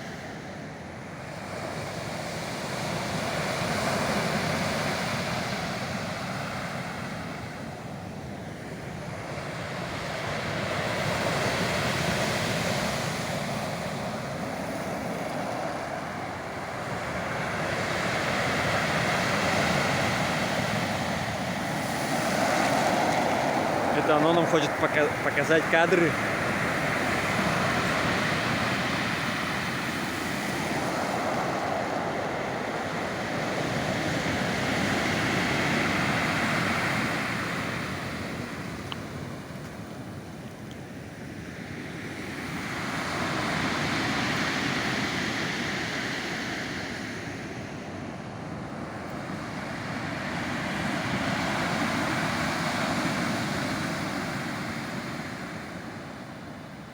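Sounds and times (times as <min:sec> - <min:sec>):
surf washing onto shore: 0:00.0 - 0:56.9.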